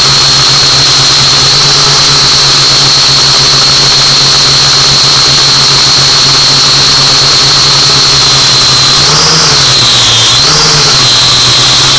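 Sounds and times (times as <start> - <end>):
drone motors whining: 0.0 - 11.9.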